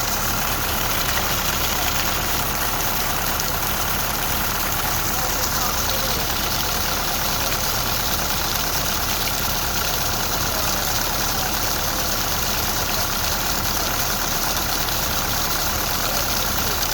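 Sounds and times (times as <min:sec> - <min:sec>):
steady rain: 0:00.0 - 0:16.9.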